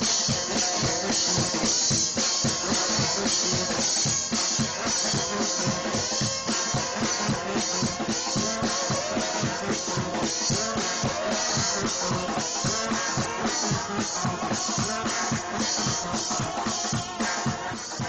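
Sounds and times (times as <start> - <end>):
driving drum kit beat: 0.0 - 18.0.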